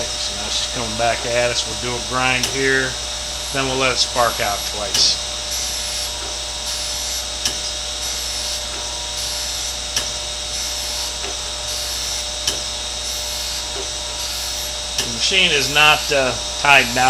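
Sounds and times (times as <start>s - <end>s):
grinder humming and hissing: 0.0s - 17.0s
sharp ticks: 2.3s - 17.0s.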